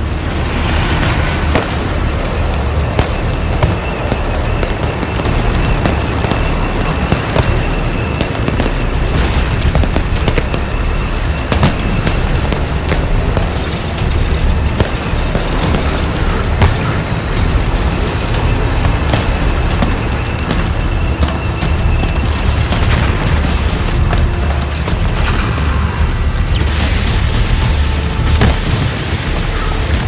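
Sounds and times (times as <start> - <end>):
fireworks bangs and booms: 0.0 - 30.0
fireworks crackling: 0.0 - 30.0.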